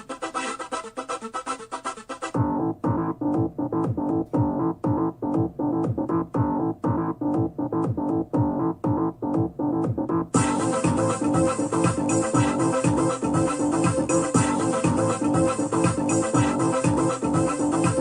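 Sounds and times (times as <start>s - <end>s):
electronic music: 0.0s - 18.0s
keyboard notes pulsing: 2.3s - 18.0s.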